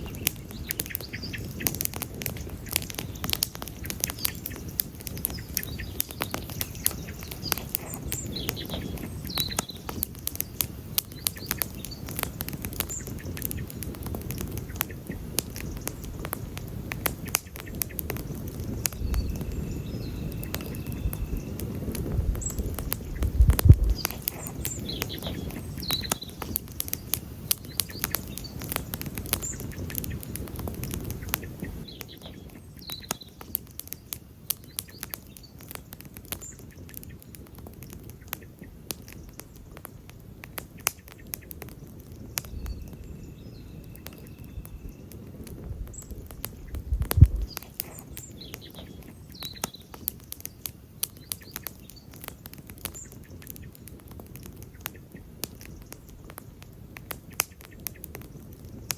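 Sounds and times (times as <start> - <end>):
faint bird chirps: 0.0 - 16.6, 18.6 - 30.4, 31.0 - 39.8, 42.2 - 56.1
campfire crackling and popping: 0.0 - 58.9
low fire rumble: 0.0 - 58.9.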